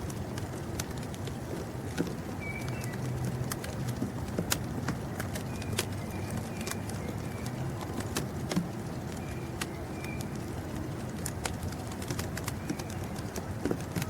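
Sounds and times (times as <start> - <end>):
steady low rumble: 0.0 - 14.0
birds chirping: 2.2 - 14.0.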